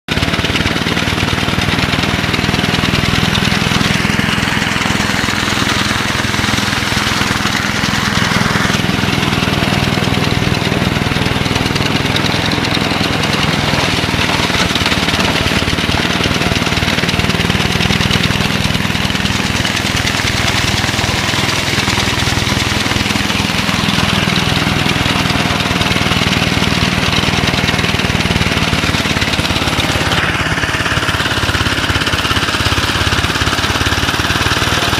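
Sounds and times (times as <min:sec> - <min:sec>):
small tractor engine running: 0:00.1 - 0:34.9.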